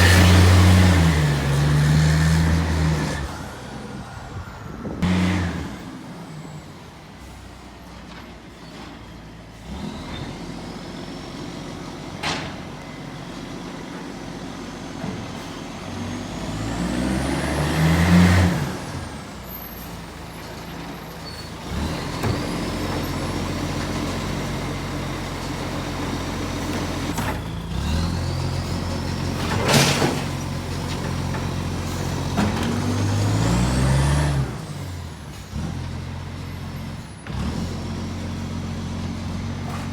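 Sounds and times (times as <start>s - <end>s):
diesel engine revving: 0.0s - 7.4s, 9.5s - 39.9s.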